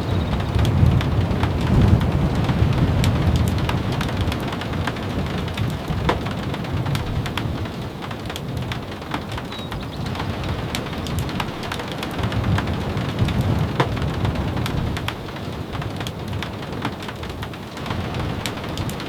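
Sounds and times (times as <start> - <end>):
rain with drop ticks: 0.0 - 19.0.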